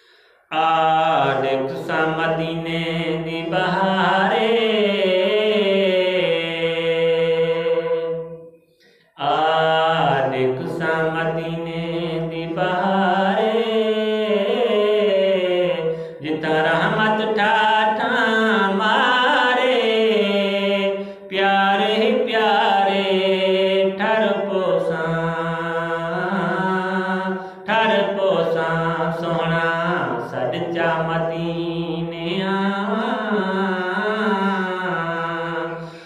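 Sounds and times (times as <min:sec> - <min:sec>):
man chanting into a microphone: 0:00.5 - 0:08.4, 0:09.2 - 0:36.0.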